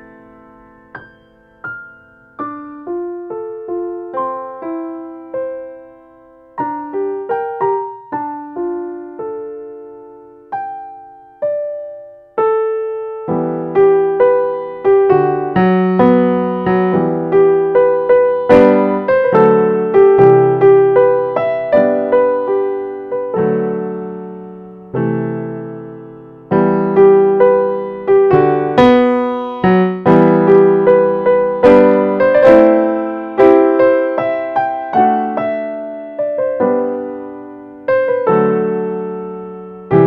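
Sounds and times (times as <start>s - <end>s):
solo piano melody: 0.0s - 40.0s.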